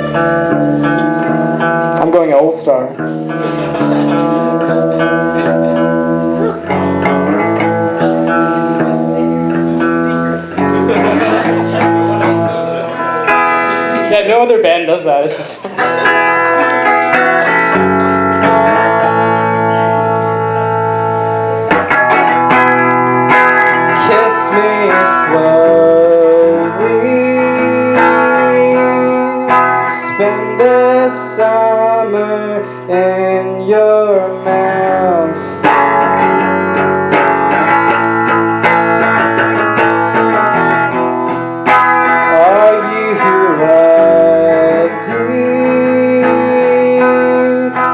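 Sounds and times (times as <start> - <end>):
guitar chords ringing: 0.0 - 47.9.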